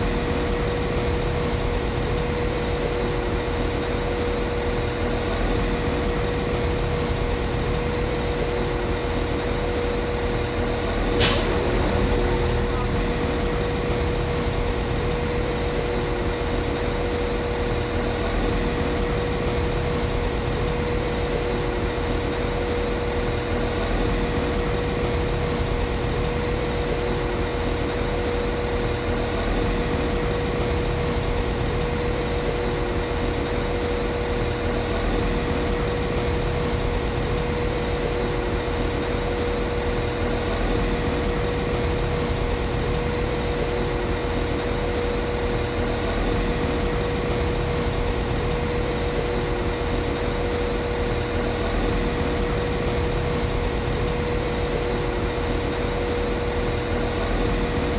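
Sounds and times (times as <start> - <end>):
steady whine: 0.0 - 57.9.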